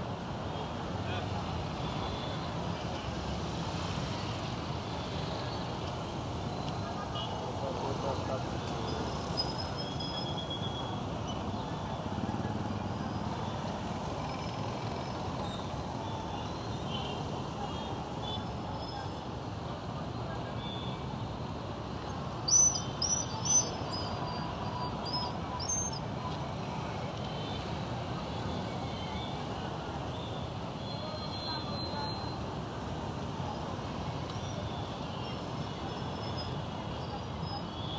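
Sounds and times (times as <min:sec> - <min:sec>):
motorcycle and car traffic: 0:00.0 - 0:37.9.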